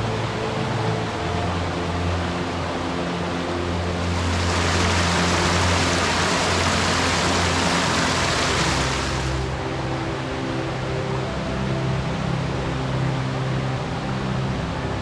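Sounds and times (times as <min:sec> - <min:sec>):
background music with sustained notes: 0:00.0 - 0:15.0
rushing water: 0:00.0 - 0:15.0.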